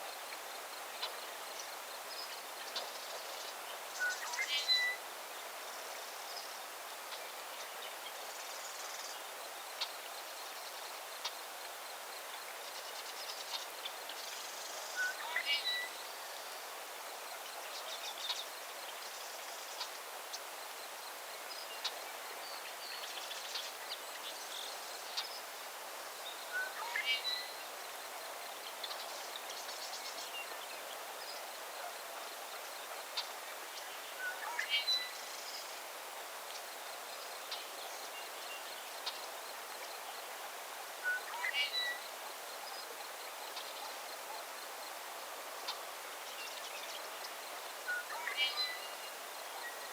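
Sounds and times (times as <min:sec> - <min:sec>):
steady hiss: 0:00.0 - 0:49.9.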